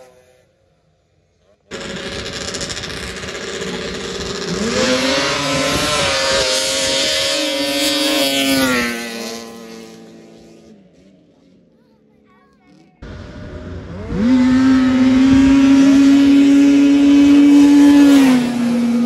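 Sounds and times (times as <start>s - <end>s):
snowmobile engines revving: 0.0s - 0.7s, 1.3s - 19.0s.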